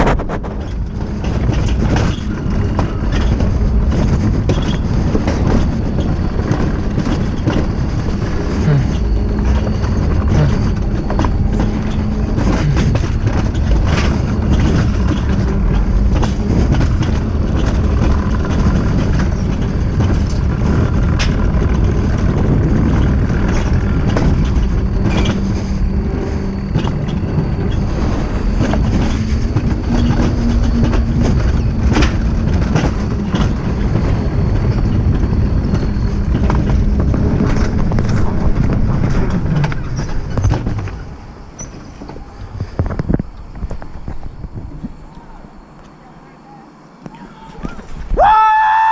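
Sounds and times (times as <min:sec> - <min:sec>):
clicks and rattles: 0:00.0 - 0:44.9
vehicle rumble: 0:00.0 - 0:48.9.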